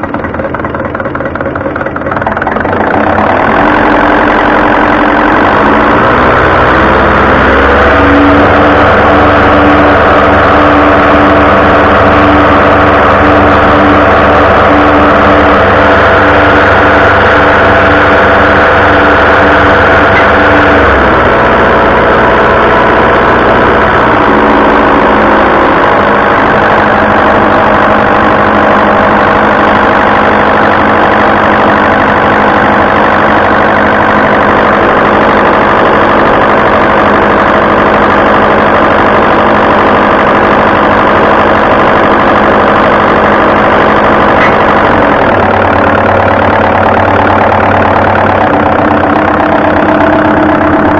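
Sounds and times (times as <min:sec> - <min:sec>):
fuel injection pump running: 0:00.0 - 0:50.9.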